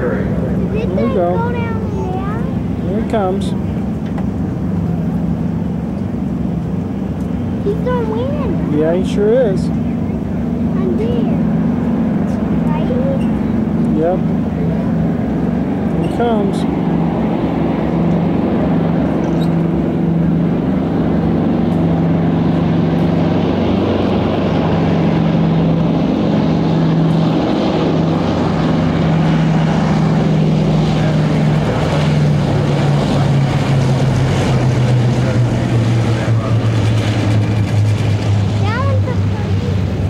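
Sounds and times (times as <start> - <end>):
piston aircraft engines droning: 0.0 - 40.0.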